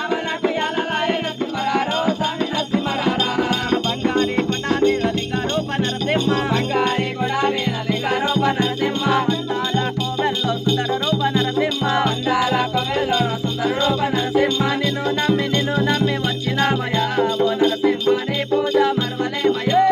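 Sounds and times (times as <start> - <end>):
large drum beating fast rhythm: 0.0 - 19.9
rattling jingling percussion: 0.0 - 19.9.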